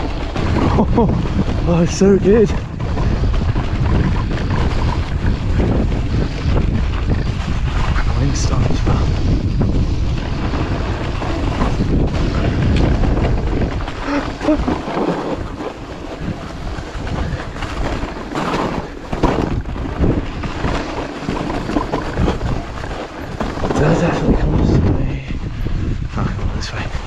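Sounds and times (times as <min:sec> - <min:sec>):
bike knocks and rattles: 0:00.0 - 0:26.0
wind rushing over microphone: 0:00.0 - 0:27.0.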